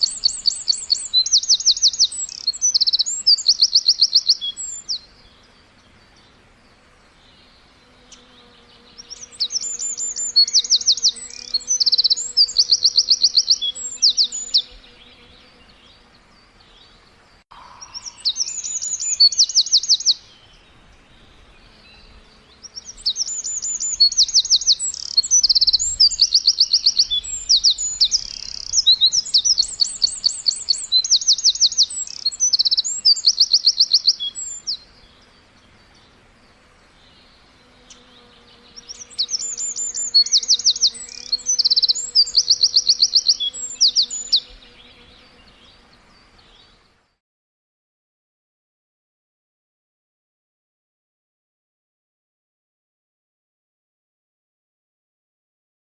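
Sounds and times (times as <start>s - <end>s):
songbird trilling chirps: 0.0s - 46.8s.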